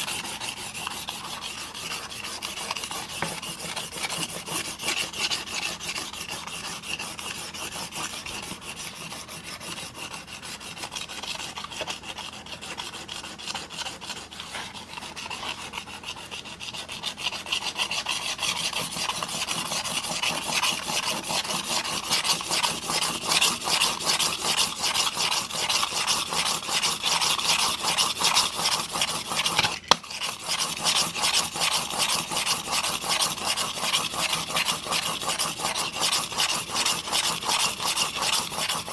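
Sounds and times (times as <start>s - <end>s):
blade rasping on sharpening plate: 0.0s - 38.9s.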